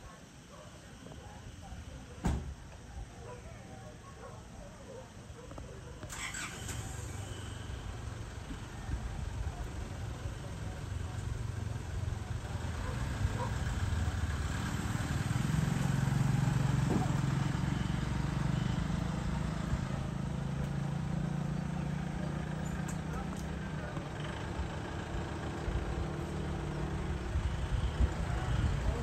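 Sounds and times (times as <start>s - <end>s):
vehicle engine humming: 5.2s - 29.0s.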